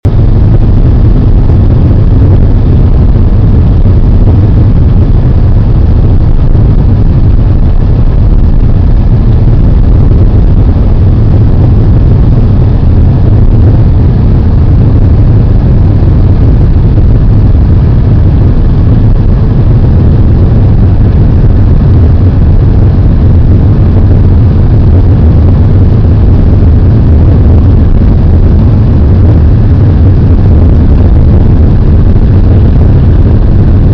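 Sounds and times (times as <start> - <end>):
car engine and road rumble: 0.0 - 33.9.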